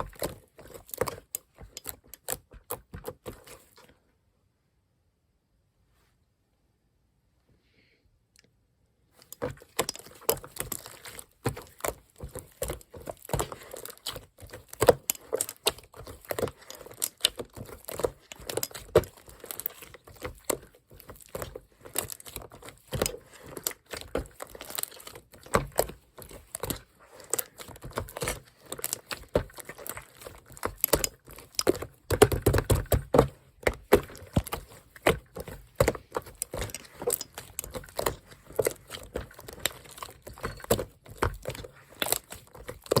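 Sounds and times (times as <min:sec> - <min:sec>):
hands squishing slime: 0:00.0 - 0:03.8, 0:09.2 - 0:43.0.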